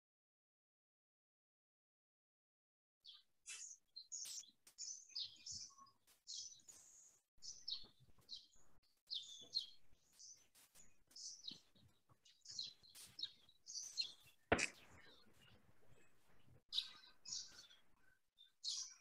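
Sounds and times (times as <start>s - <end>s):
faint birds chirping: 3.0s - 19.0s.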